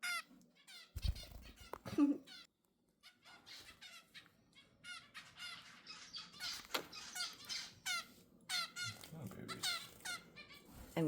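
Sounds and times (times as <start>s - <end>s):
baby finches calling: 0.0s - 11.0s.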